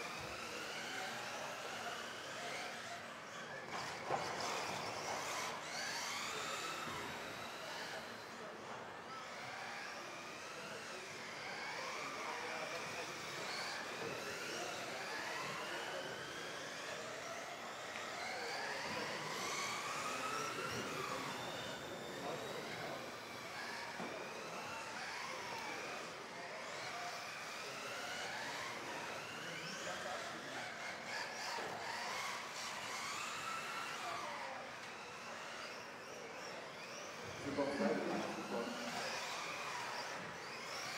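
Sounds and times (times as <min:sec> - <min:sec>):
electric toy car motors whining: 0:00.0 - 0:40.9.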